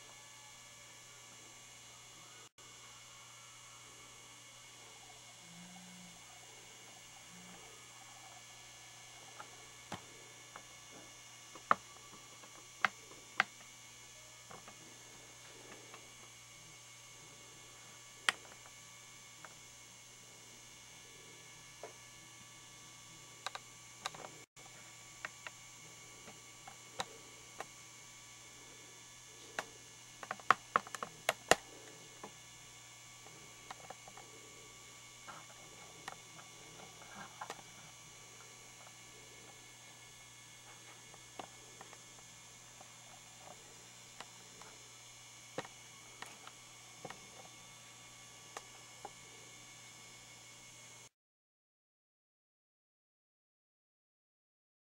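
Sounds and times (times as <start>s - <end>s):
low electrical hum: 0.0s - 51.1s.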